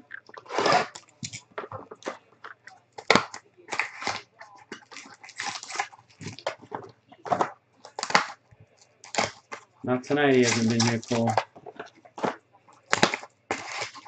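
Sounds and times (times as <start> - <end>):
plastic wrapper crinkling and tearing: 0.2 - 14.0.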